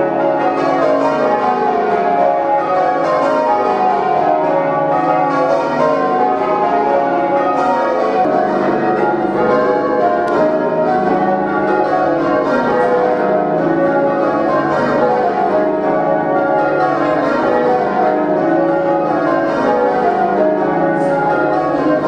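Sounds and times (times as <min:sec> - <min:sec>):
tower bells ringing: 0:00.0 - 0:22.0.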